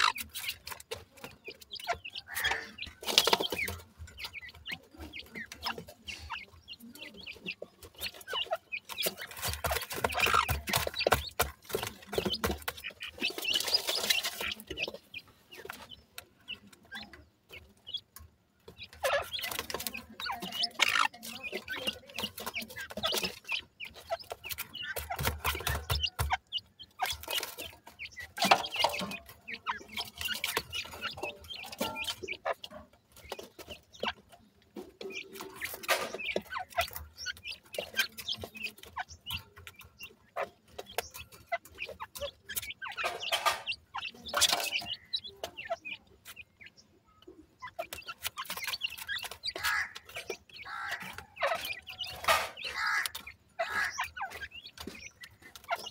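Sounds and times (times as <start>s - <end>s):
chicks clucking: 0.0s - 55.9s
chicks pecking and scratching: 0.0s - 55.9s.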